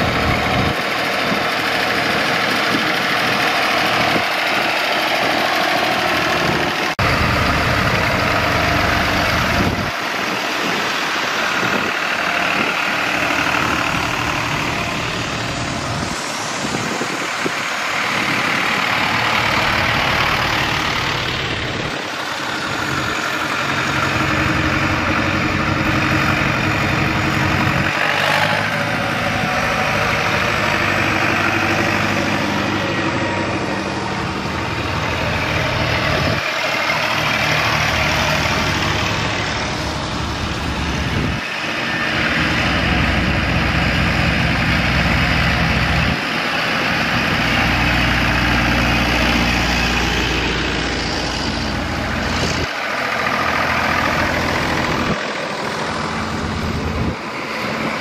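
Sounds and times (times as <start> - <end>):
tractor diesel engines driving past: 0.0 - 58.0.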